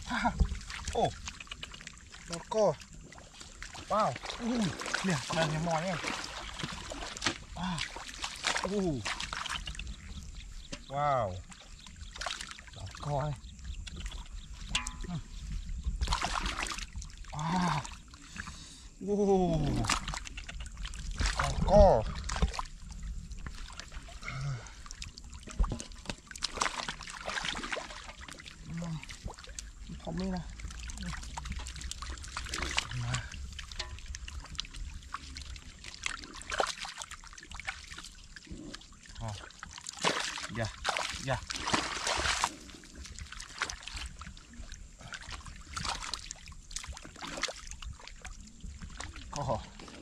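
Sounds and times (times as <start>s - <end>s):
muddy water splashing: 0.0s - 50.0s.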